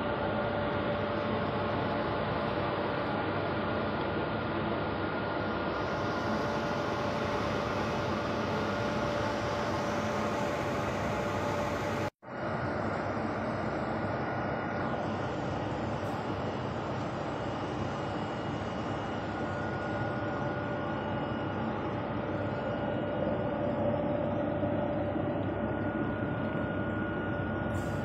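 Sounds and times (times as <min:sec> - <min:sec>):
conveyor belt running over rollers: 0:00.0 - 0:28.0.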